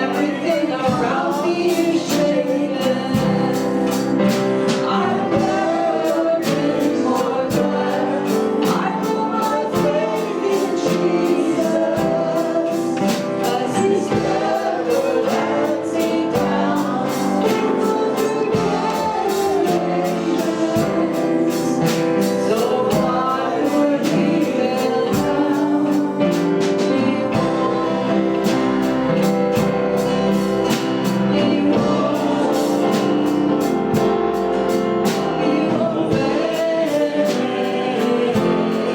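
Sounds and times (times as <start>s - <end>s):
congregation singing worship song: 0.0s - 38.9s
instrumental accompaniment with beat: 0.0s - 38.9s.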